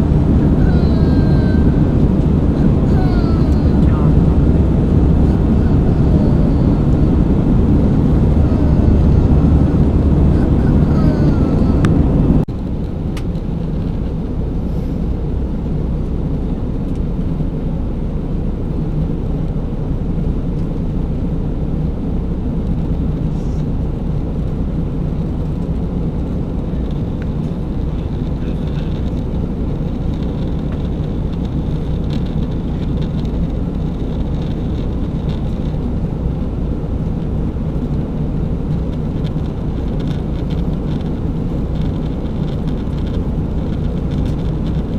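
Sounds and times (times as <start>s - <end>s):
airliner cabin engine drone: 0.0s - 44.9s.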